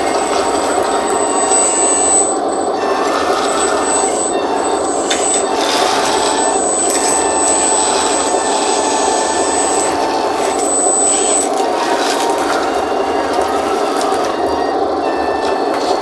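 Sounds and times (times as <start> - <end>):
hydraulic pump humming: 0.0 - 16.0
thin high whine: 0.0 - 16.0.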